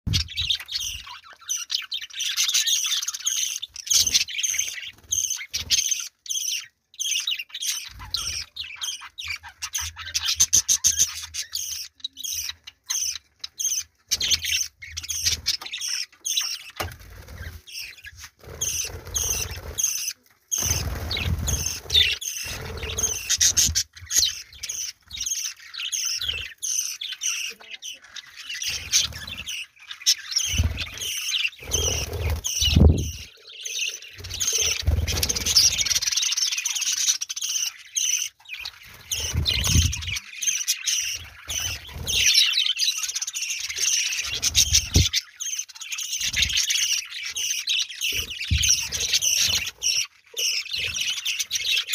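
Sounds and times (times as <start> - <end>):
budgerigars chattering: 0.1 - 51.9.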